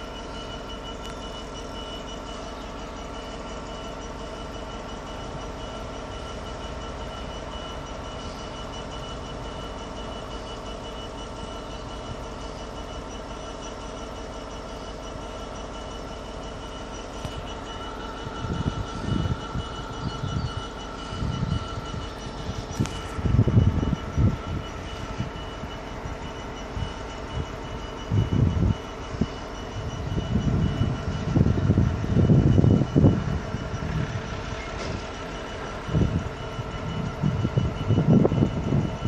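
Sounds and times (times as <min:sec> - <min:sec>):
diesel locomotive engine idling: 0:00.0 - 0:39.0
high whine: 0:00.0 - 0:39.0.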